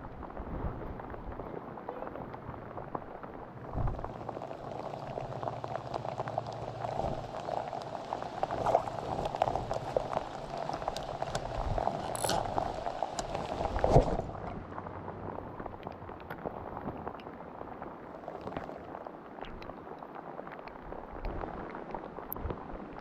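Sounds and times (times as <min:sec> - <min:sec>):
rain pattering: 0:00.0 - 0:23.0
rushing water: 0:00.0 - 0:23.0.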